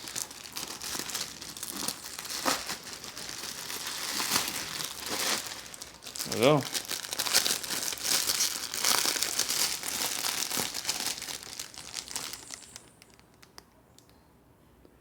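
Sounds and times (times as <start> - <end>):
plastic tearing: 0.0 - 13.6
plastic packaging crinkling: 0.0 - 13.7.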